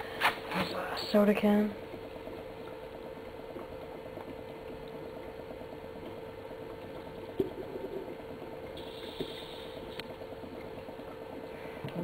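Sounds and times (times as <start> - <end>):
constant hum: 0.0 - 12.0
gas bubbling through water: 0.8 - 12.0.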